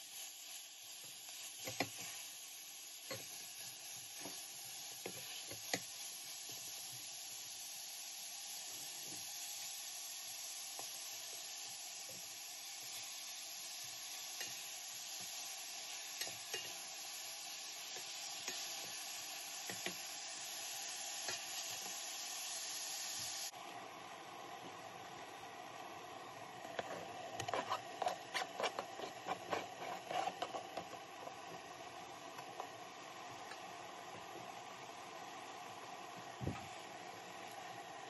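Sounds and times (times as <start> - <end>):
meat sizzling in a pot: 0.0 - 38.0.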